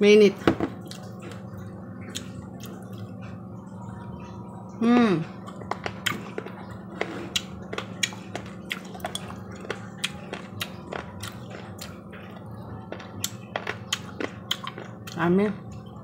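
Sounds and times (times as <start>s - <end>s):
low hum: 0.1s - 16.0s
person chewing with wet smacks: 0.8s - 3.4s, 5.2s - 15.9s.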